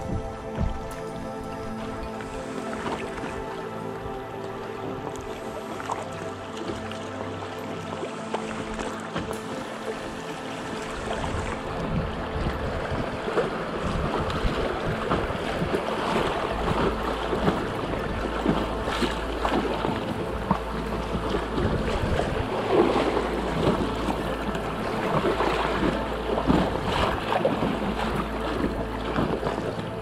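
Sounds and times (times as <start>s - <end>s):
wind rumble on microphone: 0.0s - 6.9s, 8.6s - 30.0s
paddle splashes: 0.0s - 30.0s
water lapping against raft: 0.0s - 30.0s.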